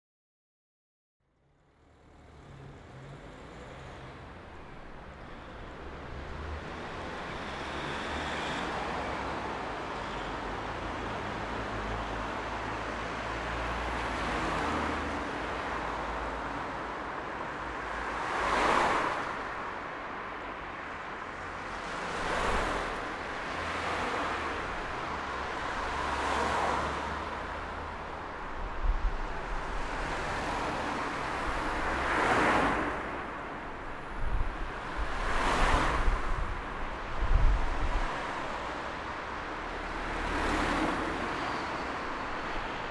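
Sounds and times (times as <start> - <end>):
street traffic: 1.3 - 42.9
vehicles passing by: 1.4 - 42.9.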